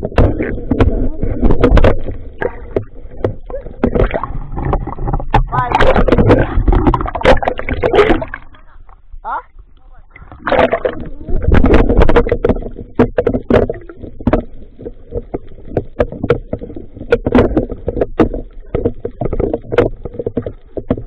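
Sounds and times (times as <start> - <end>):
bubbling: 0.0 - 21.0
muffled water noise: 0.0 - 21.0
underwater knocks and clicks: 0.0 - 21.0.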